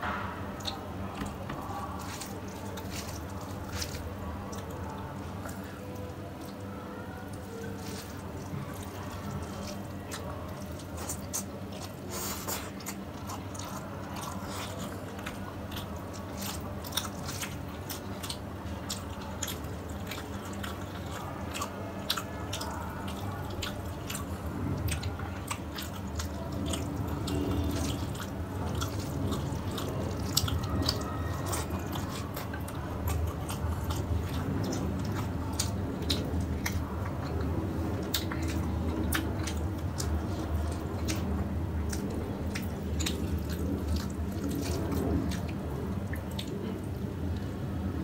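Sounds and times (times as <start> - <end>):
fingers squishing food: 0.0 - 48.0
steady low hum: 0.0 - 48.0.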